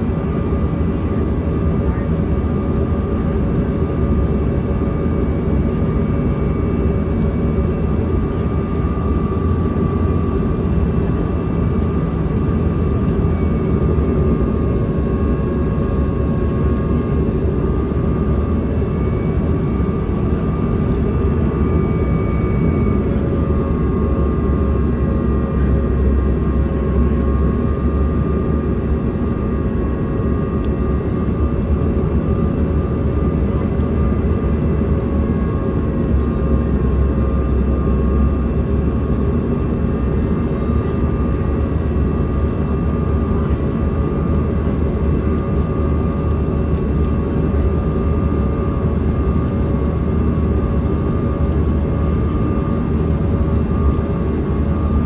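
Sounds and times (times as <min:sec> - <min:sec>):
high jet engine whines: 0:00.0 - 0:55.0
jet cabin airflow and engine rush: 0:00.0 - 0:55.0.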